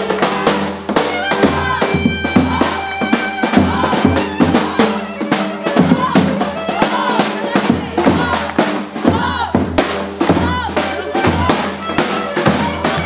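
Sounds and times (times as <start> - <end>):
steady drum beat: 0.0 - 13.0.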